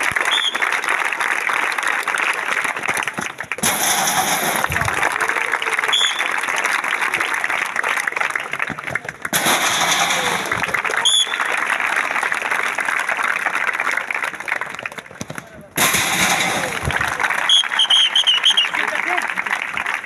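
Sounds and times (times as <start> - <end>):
crowd clapping and cheering: 0.0 - 20.0.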